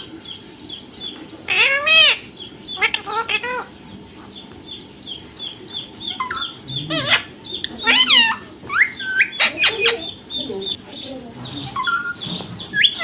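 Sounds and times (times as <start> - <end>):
parrot chirping: 0.0 - 13.0
parrot squawking: 1.0 - 13.0.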